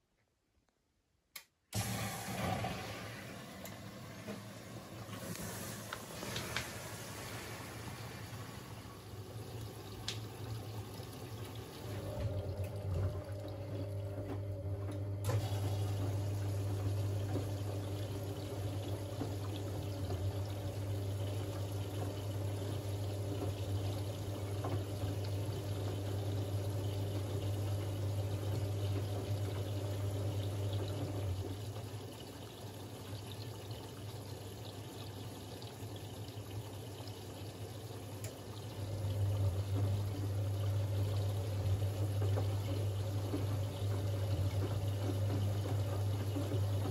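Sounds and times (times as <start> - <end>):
washing machine low hum: 1.7 - 46.9
water rushing into washing machine: 1.7 - 46.9.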